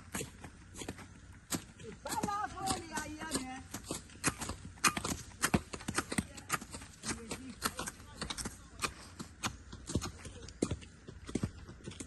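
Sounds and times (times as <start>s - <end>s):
footsteps on dry vegetation: 0.0s - 12.0s.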